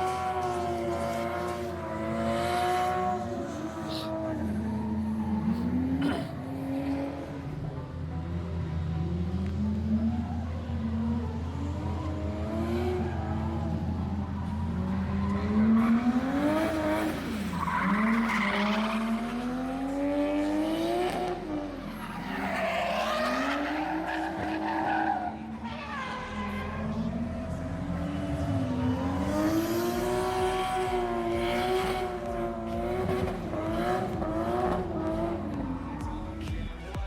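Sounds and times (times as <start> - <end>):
tyres squealing and skidding: 0.0 - 7.3, 9.9 - 36.7
car engines revving: 0.0 - 37.0.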